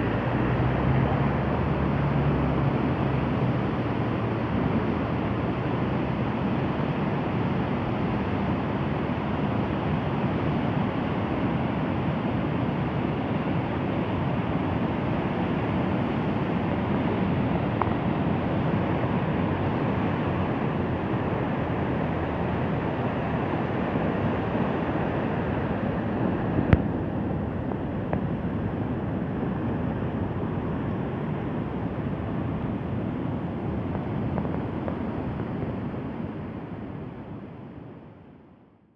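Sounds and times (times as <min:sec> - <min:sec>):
heavy surf rushing: 0:00.0 - 0:37.6.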